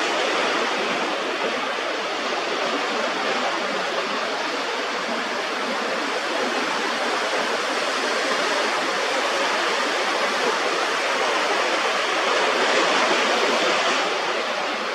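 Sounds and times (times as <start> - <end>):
ocean surf washing over rocks: 0.0 - 14.9.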